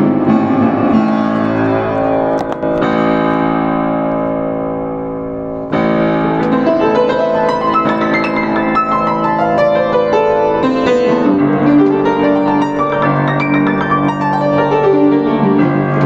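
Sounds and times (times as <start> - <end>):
piano chords and runs: 0.0 - 16.0.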